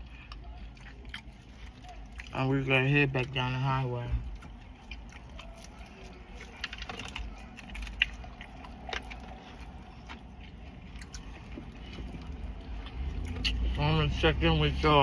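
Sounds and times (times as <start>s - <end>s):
chewing: 0.0s - 15.0s
low steady hum: 0.0s - 15.0s.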